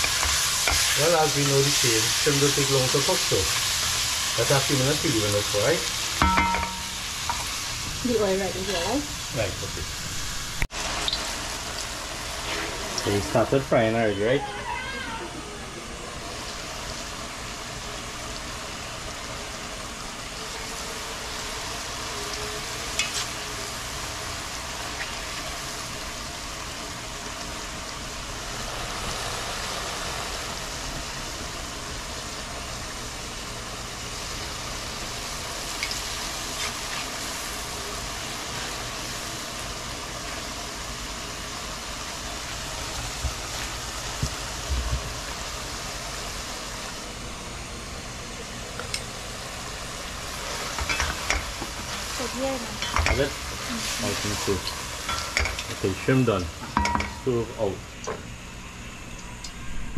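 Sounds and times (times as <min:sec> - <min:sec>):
shrimp sizzling in hot oil: 0:00.0 - 0:59.7.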